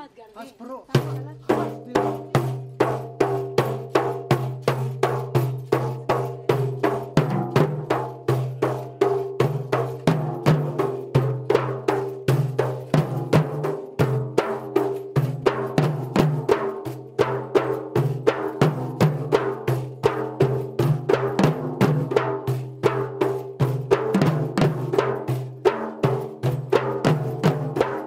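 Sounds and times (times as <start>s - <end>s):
frame drums beating: 0.0s - 28.0s.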